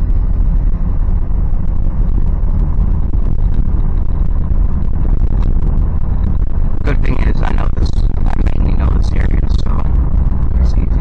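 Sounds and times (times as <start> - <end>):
car engine low rumble: 0.0 - 11.0
road noise inside cabin: 0.0 - 11.0.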